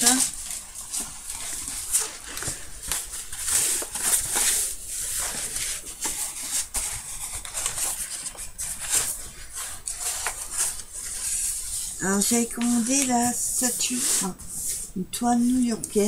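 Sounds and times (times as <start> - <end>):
paper and plastic rustling: 0.0 - 16.0.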